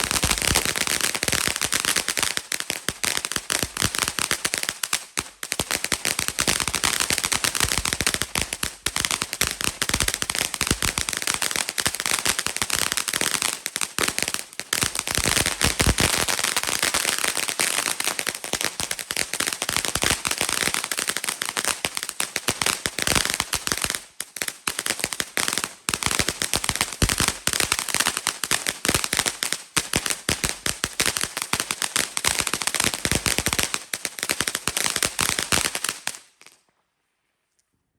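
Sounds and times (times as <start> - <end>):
firework fountain crackling: 0.0 - 36.6.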